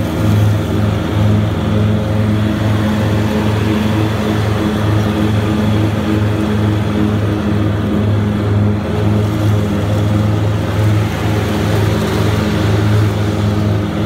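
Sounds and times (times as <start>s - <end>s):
blower air rush: 0.0s - 14.0s
diesel mower engine drone: 0.0s - 14.0s.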